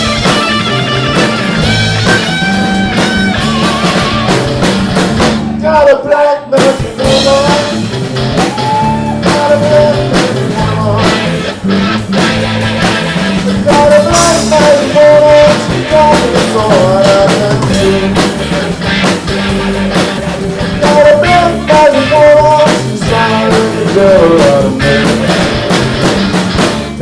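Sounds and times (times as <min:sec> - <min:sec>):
electric guitar lead lines: 0:00.0 - 0:05.7, 0:06.8 - 0:27.0
live blues-rock band playing: 0:00.0 - 0:27.0.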